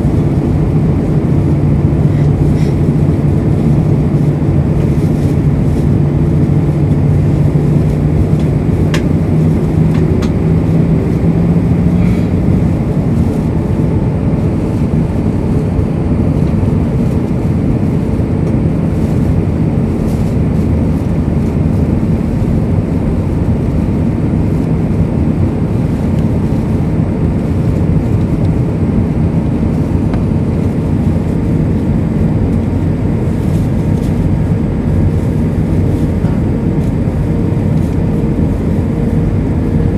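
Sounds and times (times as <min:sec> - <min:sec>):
airplane cabin roar: 0:00.0 - 0:39.9
low engine hum: 0:00.0 - 0:39.9.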